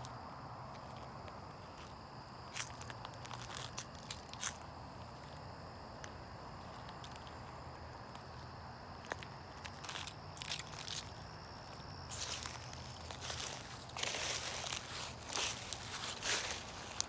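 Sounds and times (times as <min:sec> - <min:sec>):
footsteps crunching: 0:00.7 - 0:17.0.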